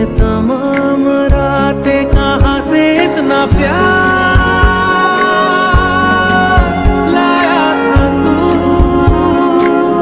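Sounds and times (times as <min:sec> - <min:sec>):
soft drum beats: 0:00.0 - 0:09.8.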